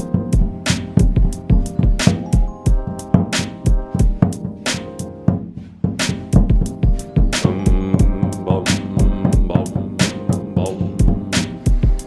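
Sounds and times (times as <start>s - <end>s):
music with drum beat: 0.0s - 12.0s.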